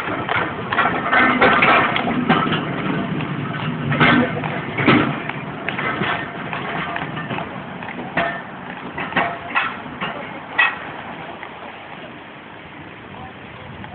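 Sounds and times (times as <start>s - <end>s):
hooves and iron wheels clattering: 0.0s - 13.9s.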